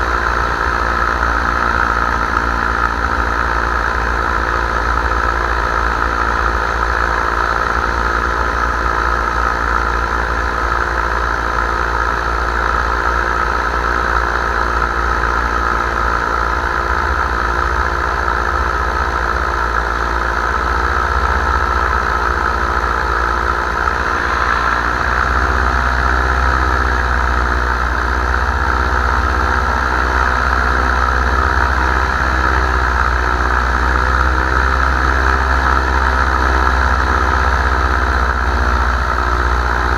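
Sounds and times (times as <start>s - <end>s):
paramotor engine running: 0.0s - 39.9s.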